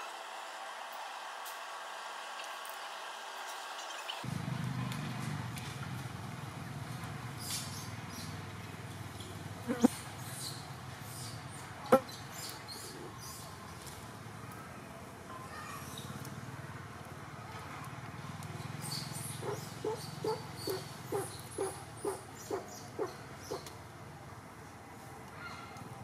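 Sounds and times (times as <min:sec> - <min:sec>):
forest background: 0:00.0 - 0:26.0.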